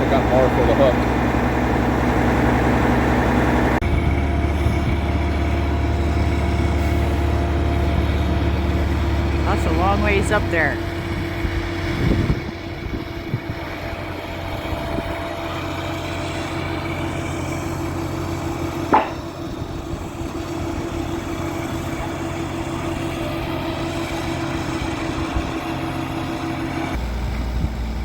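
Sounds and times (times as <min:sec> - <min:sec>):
crane diesel engine running: 0:00.0 - 0:28.0.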